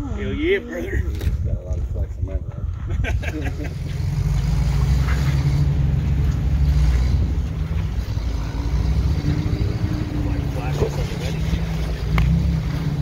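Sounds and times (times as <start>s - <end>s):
off-road vehicle engine rumbling: 0.0s - 13.0s.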